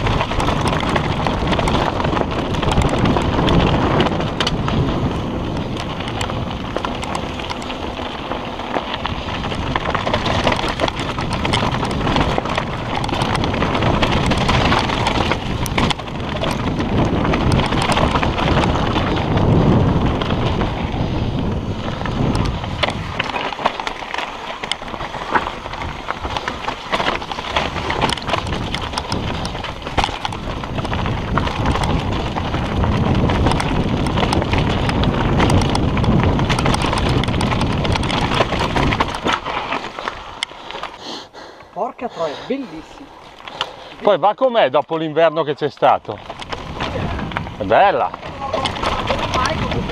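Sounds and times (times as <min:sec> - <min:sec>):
wind buffeting microphone: 0:00.0 - 0:40.9, 0:41.8 - 0:49.9
tyres crunching over loose stones: 0:00.0 - 0:41.0, 0:41.8 - 0:49.9
bike rattling: 0:00.0 - 0:49.9.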